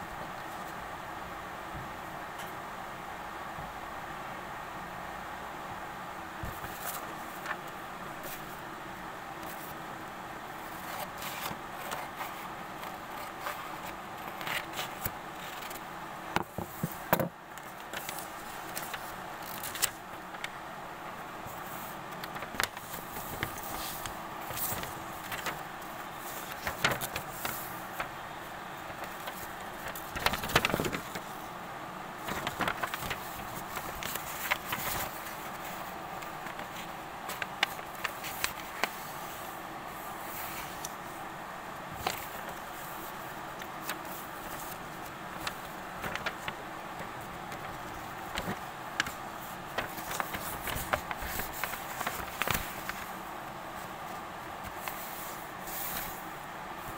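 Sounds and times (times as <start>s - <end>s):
steady background hiss: 0.0s - 56.9s
paper rustling and crackling: 6.4s - 8.7s, 9.3s - 9.9s, 10.5s - 20.6s, 21.4s - 56.9s.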